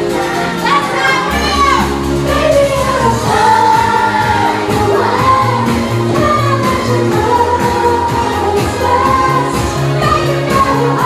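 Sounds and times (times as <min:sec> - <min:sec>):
pop backing track: 0:00.0 - 0:11.0
woman singing: 0:00.5 - 0:11.0.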